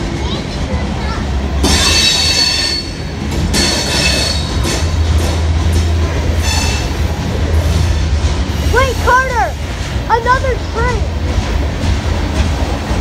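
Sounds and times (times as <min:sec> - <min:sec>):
train cars rumbling: 0:00.0 - 0:13.0.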